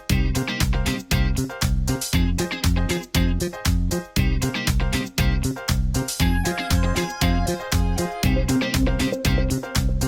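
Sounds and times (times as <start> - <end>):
upbeat music with plucked guitar: 0.0 - 10.0.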